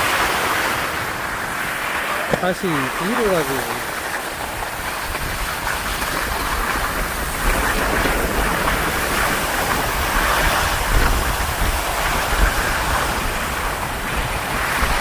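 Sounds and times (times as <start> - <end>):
skis scraping over snow: 0.0 - 15.0
wind rumble on microphone: 0.0 - 15.0.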